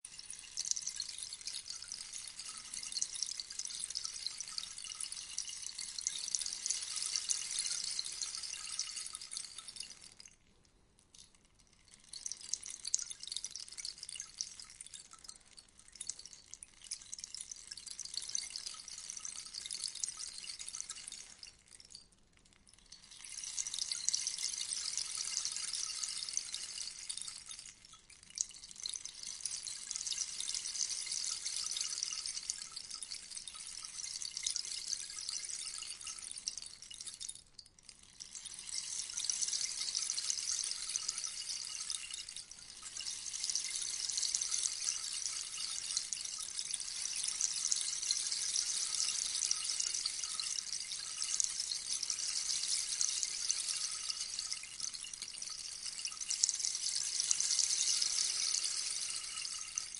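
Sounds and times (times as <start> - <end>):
rainstick pattering: 0.0 - 59.9.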